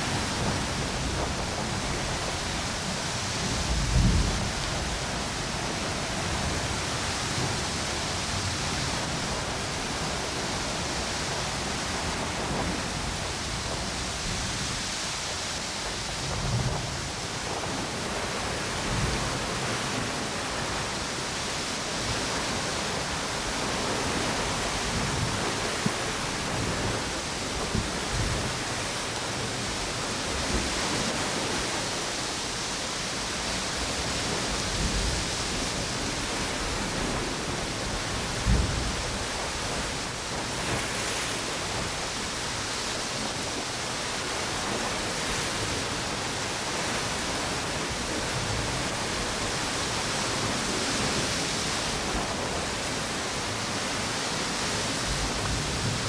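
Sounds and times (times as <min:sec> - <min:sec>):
ocean waves: 0:00.0 - 0:56.0
strong wind: 0:00.0 - 0:56.0.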